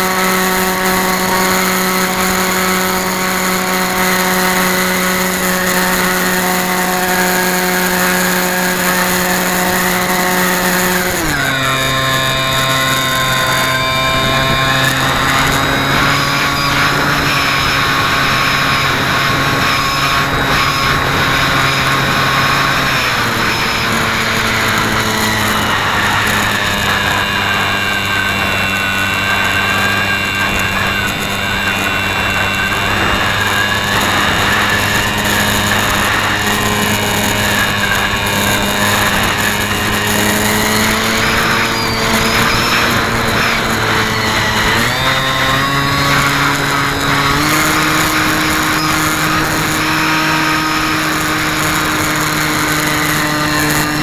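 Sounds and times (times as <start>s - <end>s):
model airplane motor and propeller: 0.0s - 54.0s.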